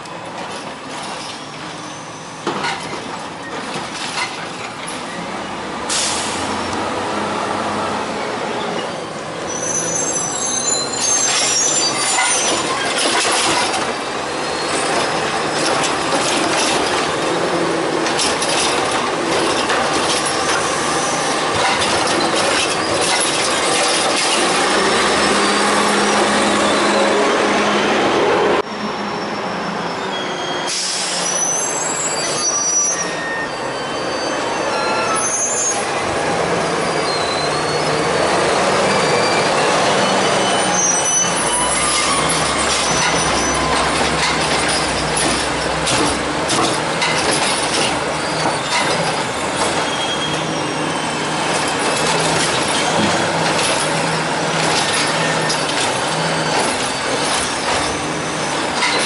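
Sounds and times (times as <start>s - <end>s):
garbage truck running: 0.0s - 29.3s, 30.1s - 59.0s
brakes squealing: 0.8s - 59.0s.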